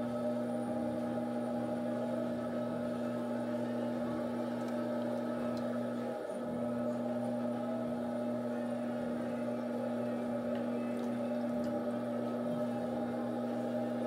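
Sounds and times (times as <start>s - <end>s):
potter's wheel humming: 0.0s - 14.0s.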